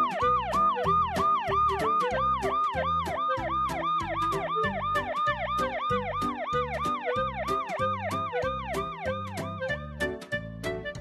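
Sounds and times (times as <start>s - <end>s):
police siren yelping: 0.0s - 10.1s
background music with steady beat: 0.0s - 11.0s.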